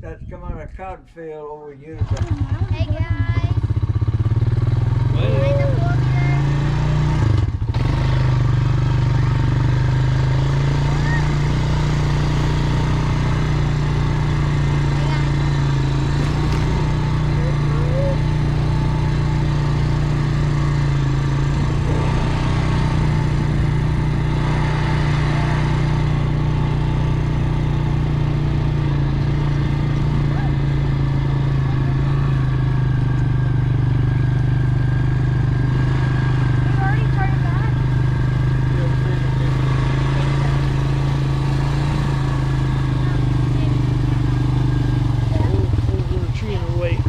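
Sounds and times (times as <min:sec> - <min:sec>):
vehicle engine droning: 0:01.9 - 0:47.0.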